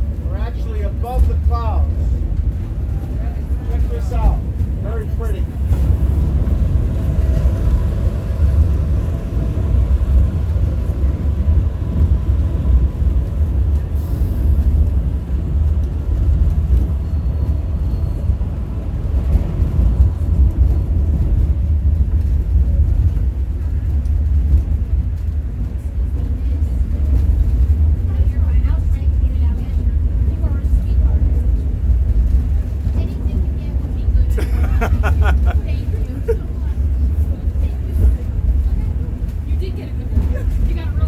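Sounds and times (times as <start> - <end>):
train low rumble: 0.0 - 41.0.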